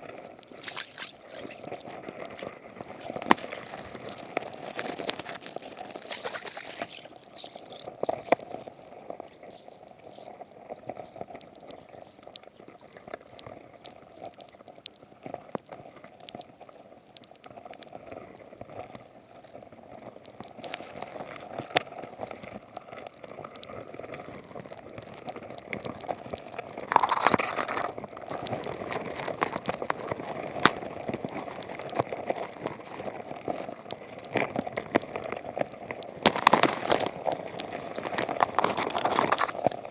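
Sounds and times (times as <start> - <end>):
sharp clicks and crackles: 0.0 - 39.9.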